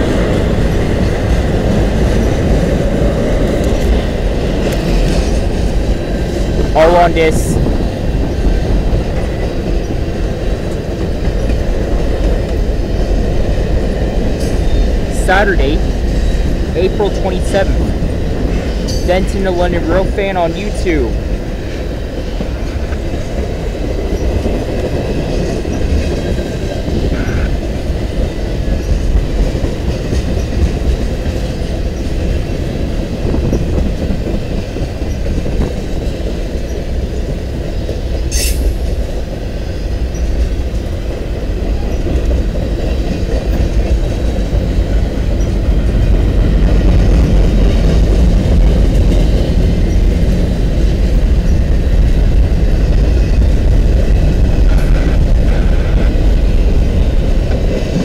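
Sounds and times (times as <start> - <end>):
freight train wheels rumbling on track: 0.0 - 58.0.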